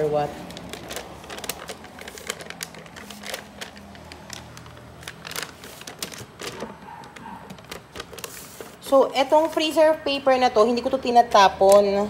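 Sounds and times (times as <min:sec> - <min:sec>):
paper crinkling: 0:00.0 - 0:09.8.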